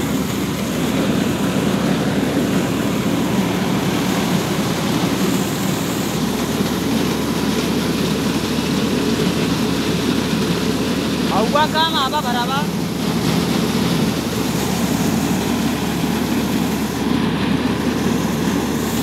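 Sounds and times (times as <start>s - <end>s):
diesel engine and milling machinery: 0.0s - 19.0s.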